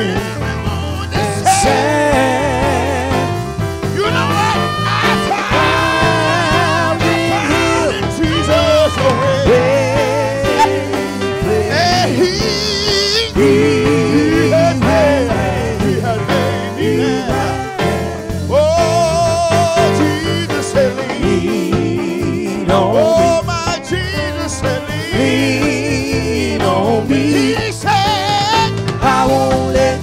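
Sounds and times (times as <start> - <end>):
person singing with vibrato: 0.0 - 3.4, 4.0 - 28.0
band playing gospel music: 0.0 - 30.0.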